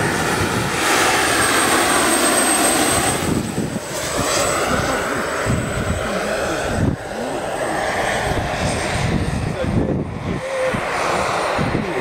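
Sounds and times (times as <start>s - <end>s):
broad rushing noise: 0.0s - 12.0s
turbine whine: 0.0s - 12.0s.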